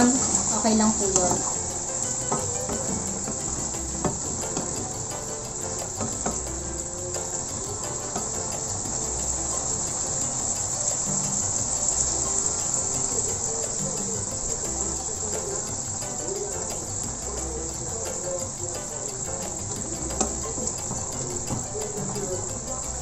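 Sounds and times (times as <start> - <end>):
insects shrilling: 0.0 - 23.0.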